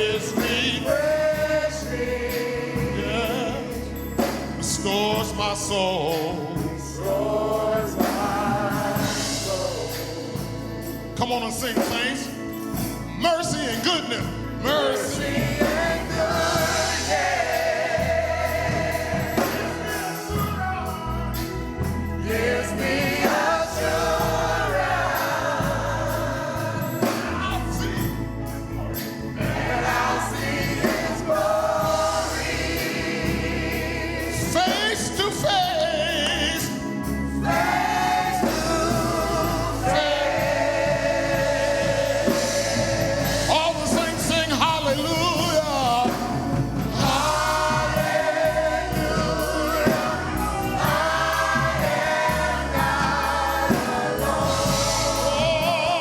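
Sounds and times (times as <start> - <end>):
choir singing: 0.0 - 56.0
low musical accompaniment: 0.0 - 56.0.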